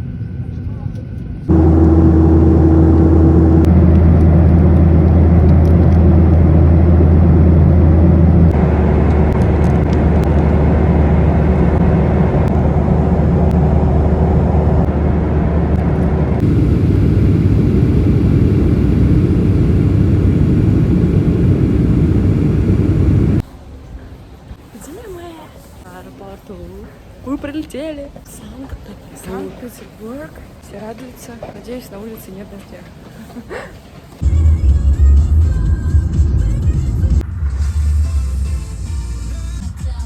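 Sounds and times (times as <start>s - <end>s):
jet engine cabin drone: 0.0s - 25.1s, 32.4s - 39.8s.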